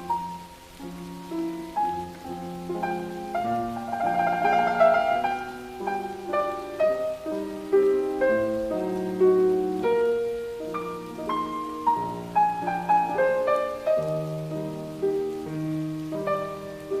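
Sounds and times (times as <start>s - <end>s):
faint rain: 0.0s - 17.0s
solo piano melody: 0.0s - 17.0s.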